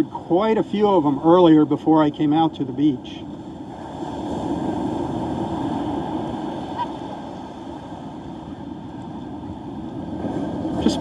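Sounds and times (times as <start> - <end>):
surf breaking and washing ashore: 0.0 - 11.0.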